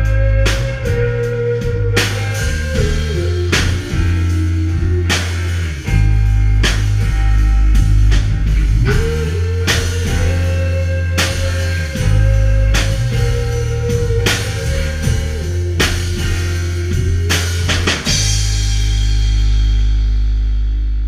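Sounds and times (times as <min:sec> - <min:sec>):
heavy bass line: 0:00.0 - 0:21.0.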